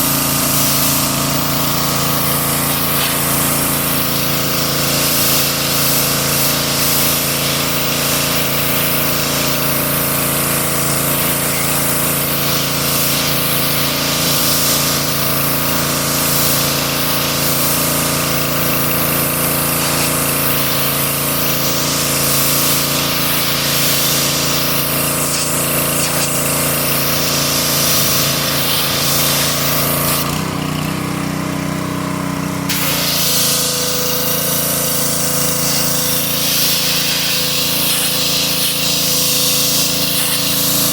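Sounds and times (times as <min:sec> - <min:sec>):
water spray hissing: 0:00.0 - 0:30.4, 0:32.7 - 0:40.9
pressure washer engine running: 0:00.0 - 0:40.9.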